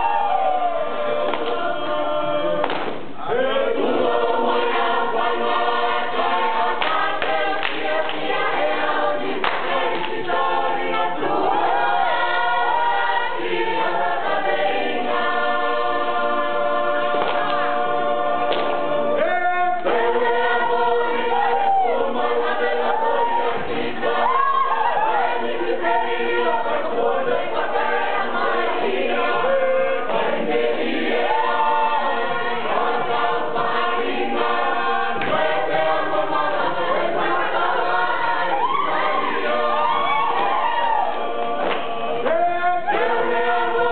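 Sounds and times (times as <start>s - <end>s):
church choir singing: 0.0s - 43.9s.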